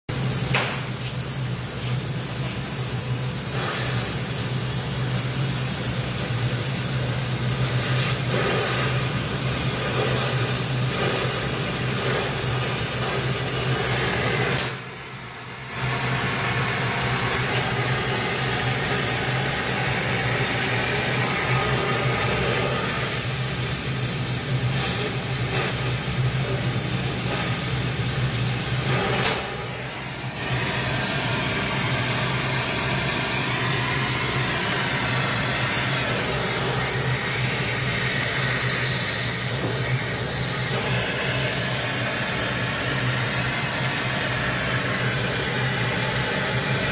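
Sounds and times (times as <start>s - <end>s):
gas torch flame hissing: 0.1s - 46.9s.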